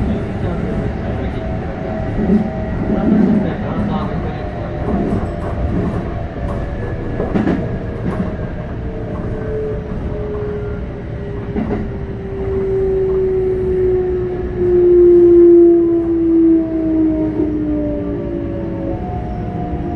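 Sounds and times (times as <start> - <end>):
train rumble inside car: 0.0 - 19.9.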